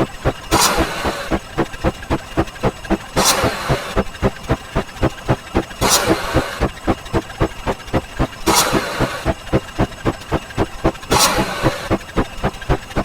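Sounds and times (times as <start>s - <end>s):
fast even clicks: 0.0s - 13.0s.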